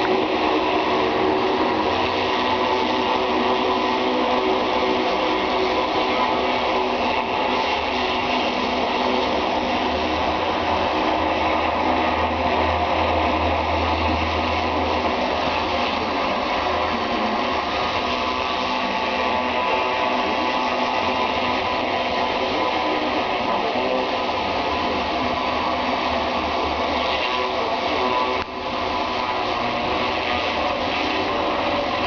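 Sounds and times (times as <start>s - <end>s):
high-pressure water spray hissing: 0.0s - 32.0s
pressure washer motor humming: 0.0s - 32.0s.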